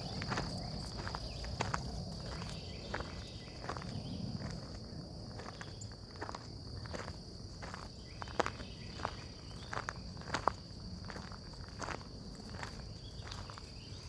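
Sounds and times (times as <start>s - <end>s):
footsteps on a trail: 0.0s - 14.0s
insects trilling: 0.0s - 14.0s.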